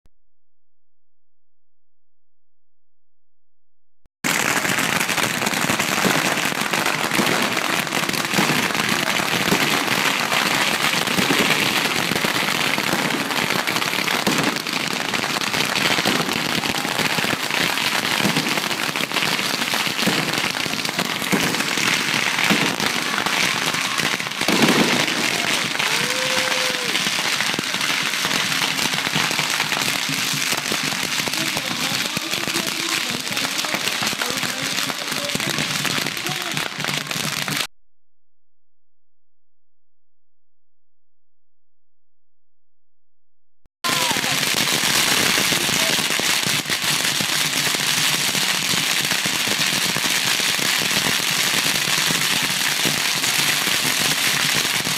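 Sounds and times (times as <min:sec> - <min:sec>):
firecrackers crackling: 0:04.2 - 0:37.7, 0:43.8 - 0:54.9.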